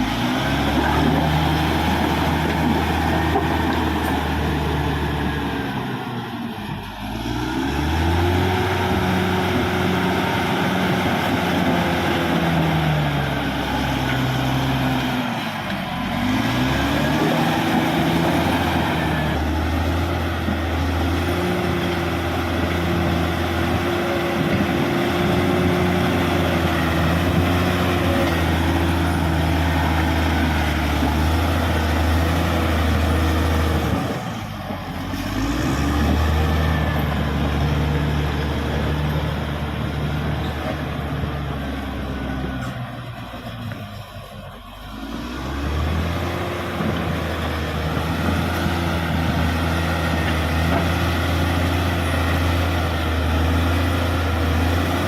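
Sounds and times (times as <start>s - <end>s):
bulldozer diesel engine revving: 0.0s - 55.0s.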